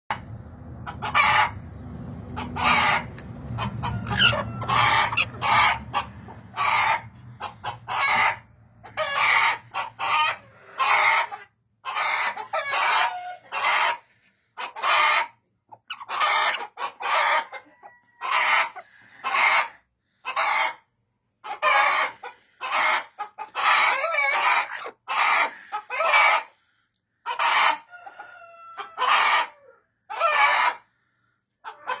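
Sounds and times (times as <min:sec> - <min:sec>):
hen cackling: 0:00.1 - 0:20.8, 0:21.4 - 0:26.5.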